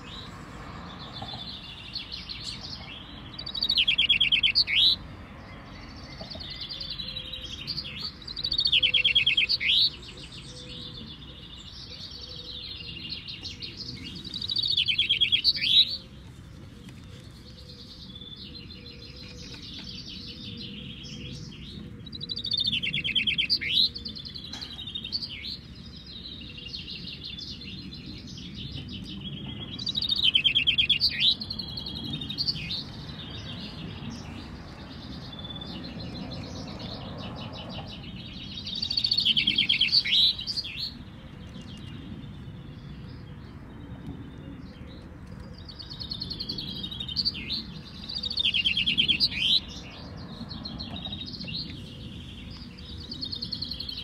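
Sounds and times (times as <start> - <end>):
chaffinches singing trills: 0.0 - 54.0.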